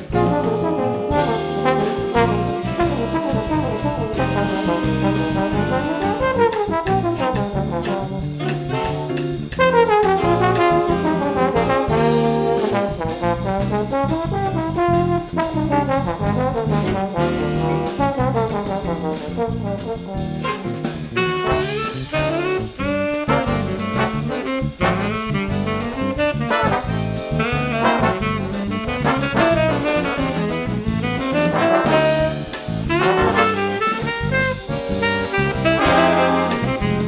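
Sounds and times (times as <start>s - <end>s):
brass ensemble playing: 0.0s - 37.0s.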